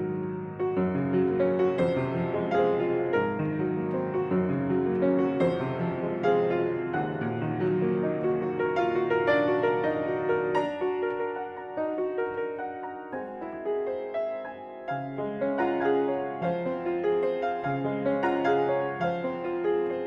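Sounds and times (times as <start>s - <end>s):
slow gentle piano piece: 0.0s - 20.0s.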